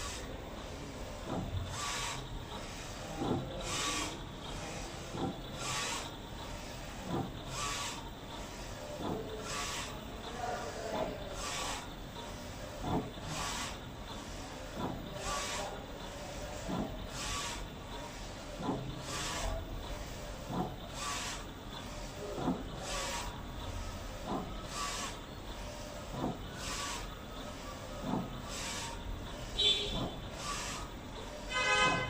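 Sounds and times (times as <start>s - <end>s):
printer carriage hissing sweep: 0.0s - 32.0s.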